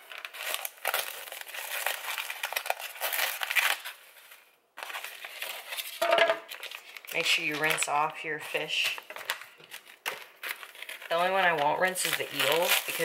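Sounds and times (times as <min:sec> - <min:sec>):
plastic cling wrap crinkling: 0:00.0 - 0:13.0.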